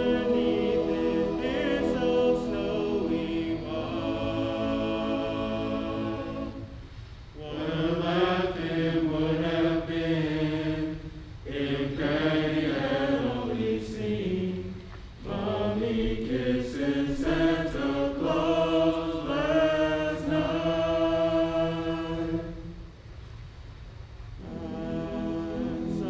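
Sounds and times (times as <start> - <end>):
male group singing a cappella: 0.0 - 22.8, 24.4 - 26.0.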